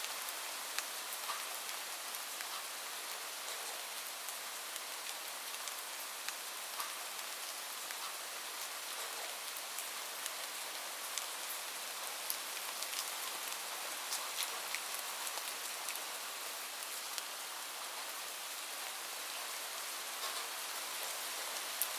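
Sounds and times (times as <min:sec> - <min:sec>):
light rain hiss: 0:00.0 - 0:21.9
raindrops ticking on a surface: 0:00.0 - 0:21.9.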